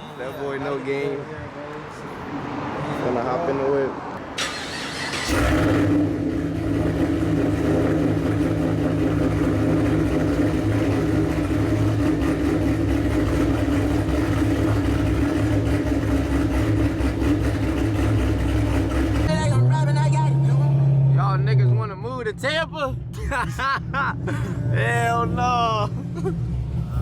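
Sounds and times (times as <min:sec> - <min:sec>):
car engine humming: 0:04.2 - 0:27.0.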